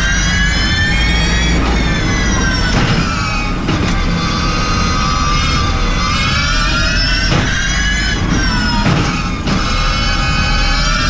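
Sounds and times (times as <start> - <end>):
electric drivetrain whining: 0.0 - 11.0
tyre and road rumble: 0.0 - 11.0.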